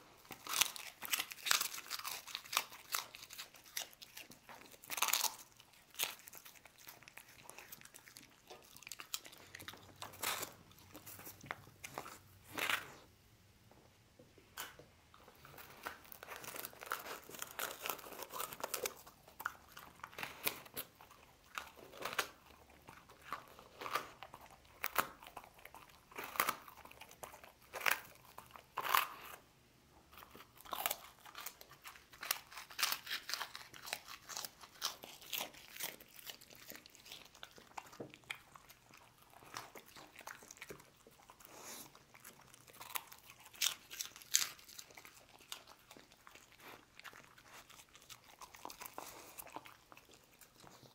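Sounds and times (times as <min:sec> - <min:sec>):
dog crunching biscuit: 0:00.0 - 0:13.1, 0:14.6 - 0:29.4, 0:30.1 - 0:50.9.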